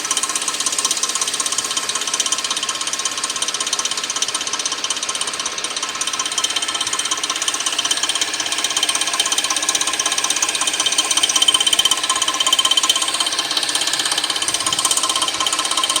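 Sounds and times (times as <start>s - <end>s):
engine metallic ticking clatter: 0.0s - 16.0s.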